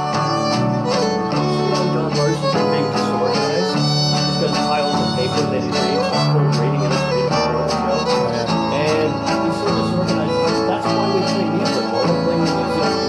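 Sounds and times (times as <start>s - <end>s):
fiddle waltz: 0.0s - 13.0s
guitar accompaniment: 0.0s - 13.0s.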